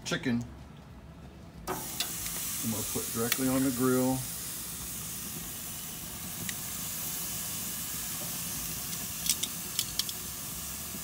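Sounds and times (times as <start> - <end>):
chicken sizzling on grill: 1.7 - 11.0.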